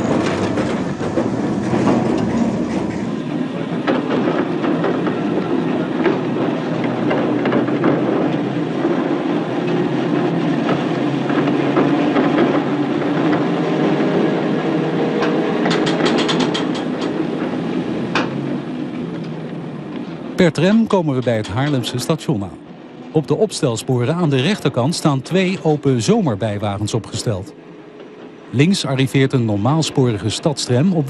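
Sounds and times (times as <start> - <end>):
tram rumbling on rails: 0.0 - 31.0
wheels clacking over track: 0.0 - 31.0.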